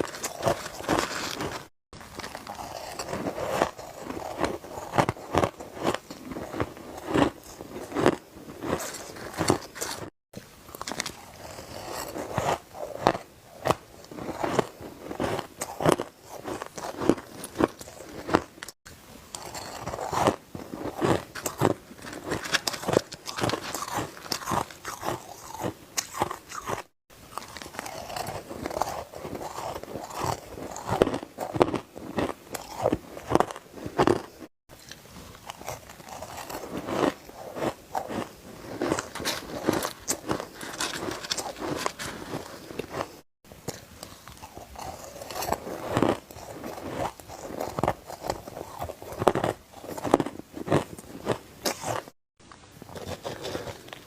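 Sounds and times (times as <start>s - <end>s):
ice being crunched and chewed: 0.0s - 10.1s, 10.7s - 52.2s, 52.8s - 54.0s.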